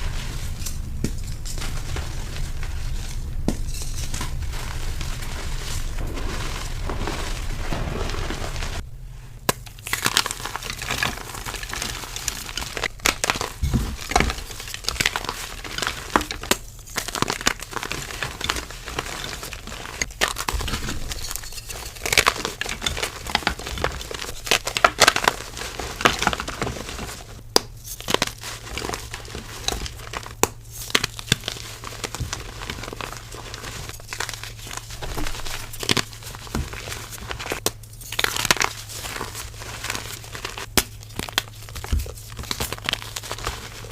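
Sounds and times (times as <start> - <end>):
chalk crunching and crackling: 0.0 - 8.8, 9.6 - 43.9.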